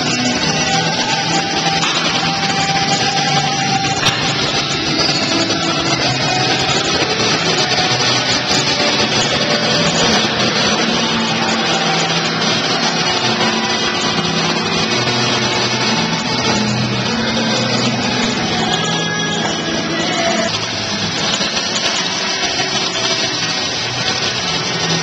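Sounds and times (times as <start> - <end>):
wrapping machine running: 0.0 - 25.0.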